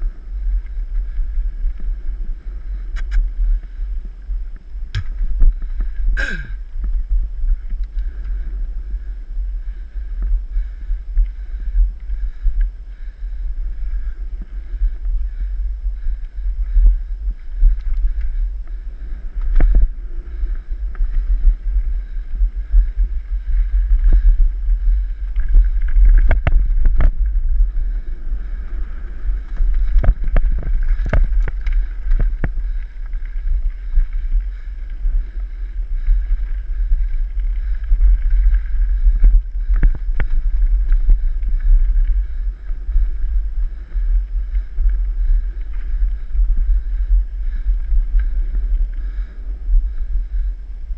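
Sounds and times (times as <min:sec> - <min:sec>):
wind buffeting microphone: 0:00.0 - 0:50.9
bike knocking and rattling: 0:00.4 - 0:50.4.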